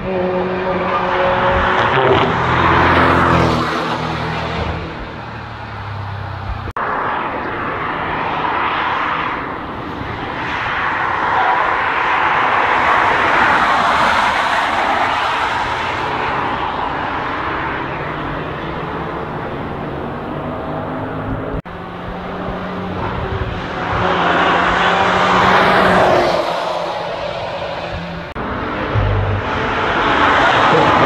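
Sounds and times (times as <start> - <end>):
car engine passing: 0.0 - 31.0.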